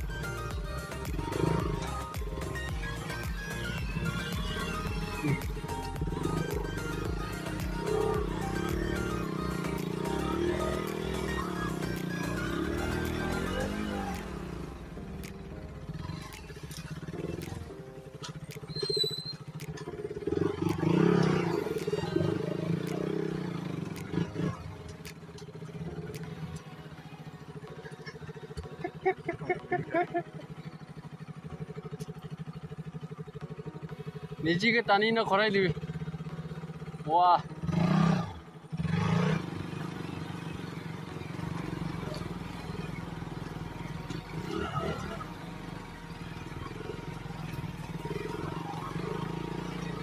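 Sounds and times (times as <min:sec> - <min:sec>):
motorcycle engine droning: 0:00.0 - 0:50.0.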